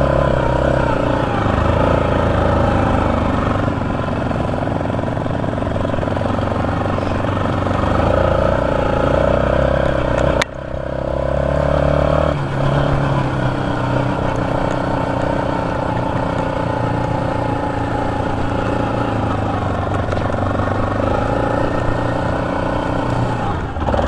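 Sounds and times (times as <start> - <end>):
quad engine revving: 0.0 - 24.0.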